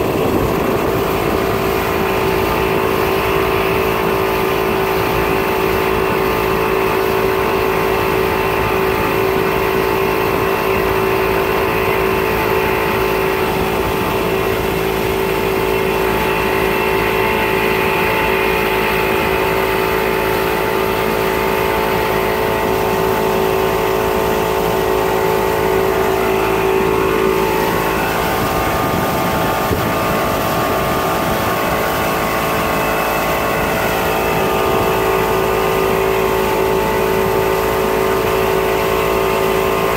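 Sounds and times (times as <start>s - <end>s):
outboard motor running: 0.0s - 39.9s
rushing water and wind: 0.0s - 39.9s.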